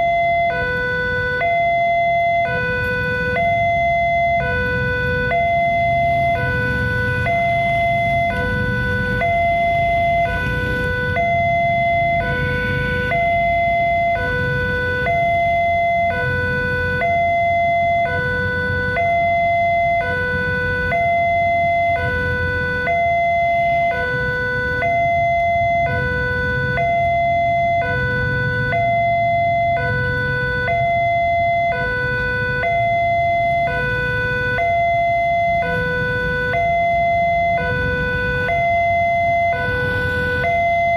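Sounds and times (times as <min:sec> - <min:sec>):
two-tone crossing alarm: 0:00.0 - 0:40.9.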